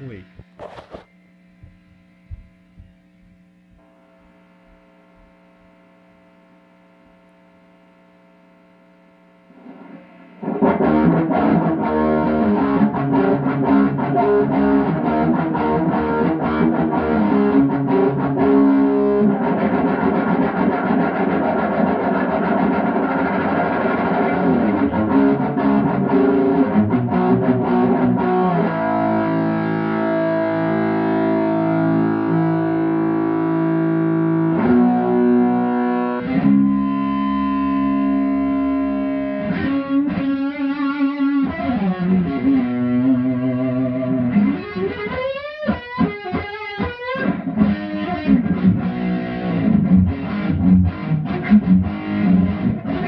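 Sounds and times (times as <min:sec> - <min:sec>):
amplifier hum: 0:00.0 - 0:45.2
distorted electric guitar: 0:00.0 - 0:53.0.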